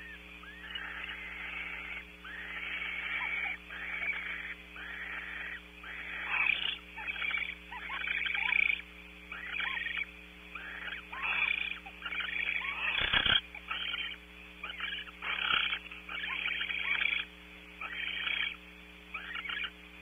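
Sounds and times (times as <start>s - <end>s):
owls hissing calls: 0.0s - 19.8s.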